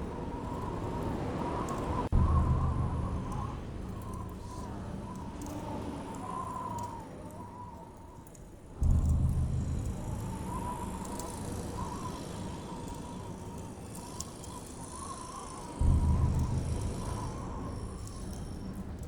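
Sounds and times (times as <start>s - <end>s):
strong wind gusts: 0.0s - 7.8s, 8.8s - 19.0s.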